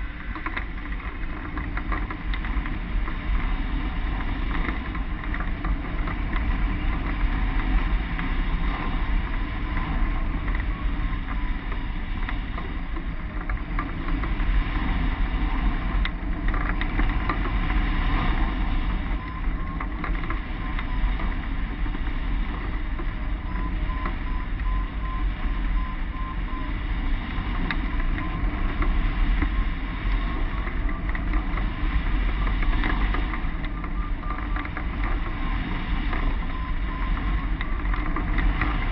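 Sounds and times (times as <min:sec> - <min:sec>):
faint steady tones: 0:00.0 - 0:38.9
wind rushing on microphone: 0:00.0 - 0:38.9.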